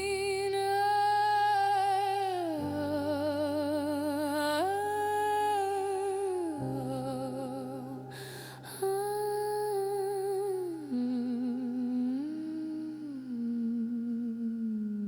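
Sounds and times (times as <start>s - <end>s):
hummed vocal melody: 0.0s - 15.0s.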